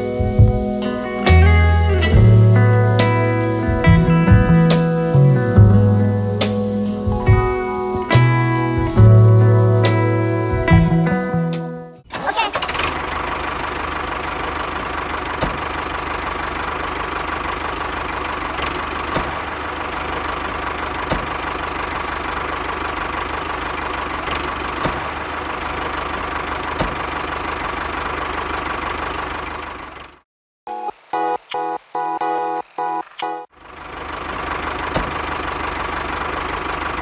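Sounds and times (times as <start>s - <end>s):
small engine idling: 0.0s - 11.5s, 12.4s - 30.2s, 33.6s - 37.0s.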